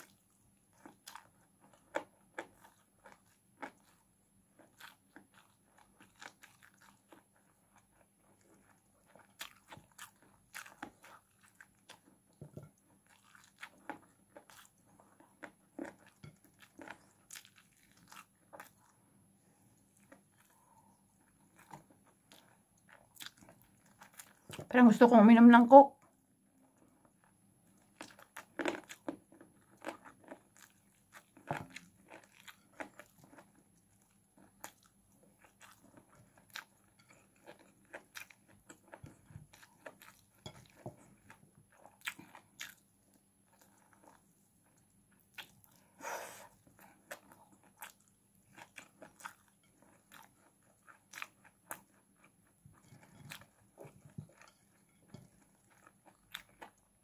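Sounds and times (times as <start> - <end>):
person chewing food: 0.0 - 24.7, 26.0 - 57.0.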